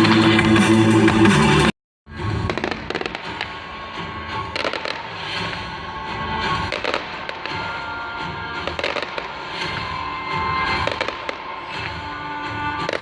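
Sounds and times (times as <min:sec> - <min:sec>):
loud music: 0:00.0 - 0:13.0
fireworks bangs and crackles: 0:02.2 - 0:13.0.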